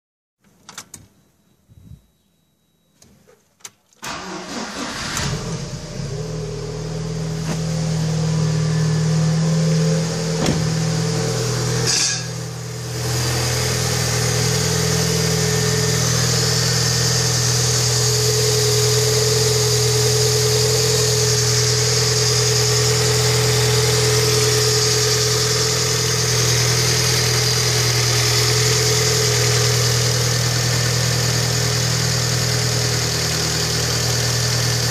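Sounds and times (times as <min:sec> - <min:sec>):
car engine starting and idling: 0:04.0 - 0:34.9.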